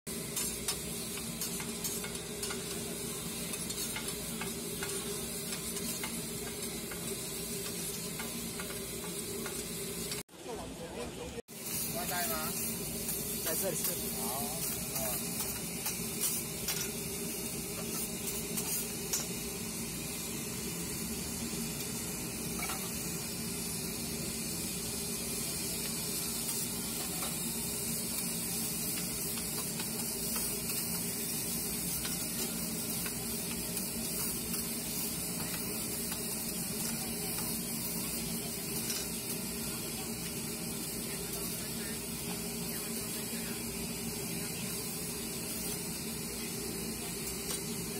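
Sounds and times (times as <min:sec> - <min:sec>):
rice sizzling on griddle: 0:00.1 - 0:47.9.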